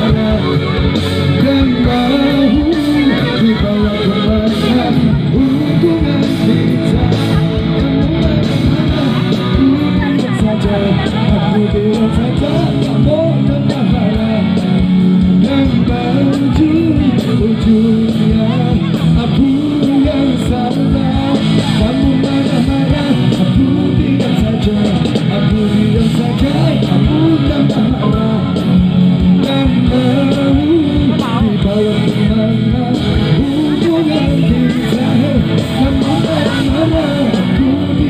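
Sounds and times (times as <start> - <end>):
electric guitars: 0.0 - 38.0
live rock band playing: 0.0 - 38.0
person singing: 0.0 - 38.0.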